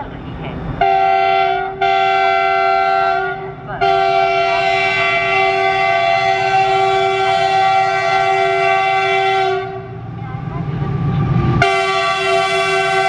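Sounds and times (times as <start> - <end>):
train rumbling on track: 0.0 - 13.0
locomotive air horn: 0.8 - 10.0, 11.6 - 13.0.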